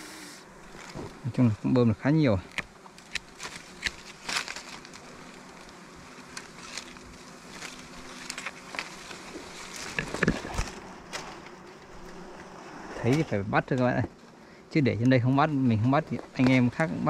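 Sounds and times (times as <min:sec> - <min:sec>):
bees buzzing: 0:00.0 - 0:17.0
twigs and leaves crackling: 0:00.6 - 0:14.4, 0:16.0 - 0:17.0.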